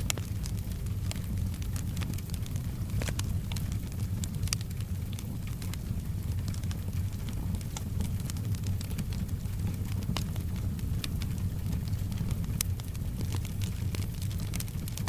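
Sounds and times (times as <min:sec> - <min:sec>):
soft rain: 0:00.0 - 0:15.0
wood fire crackling and popping: 0:00.0 - 0:15.0.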